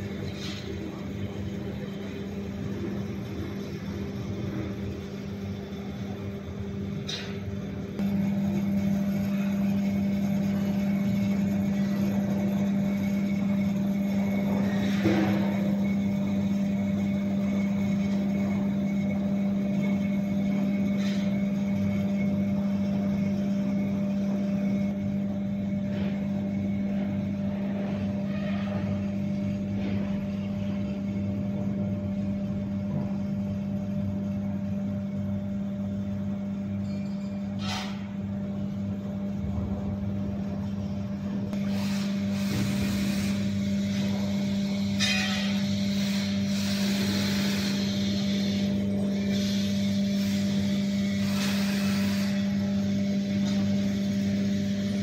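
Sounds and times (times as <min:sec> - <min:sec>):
electric machinery humming: 0:00.0 - 0:55.0.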